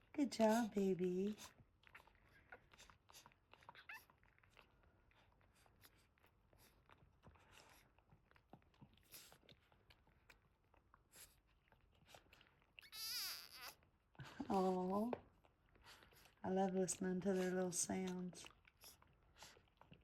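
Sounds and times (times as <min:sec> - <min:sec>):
dog licking puppies: 0:00.0 - 0:20.0.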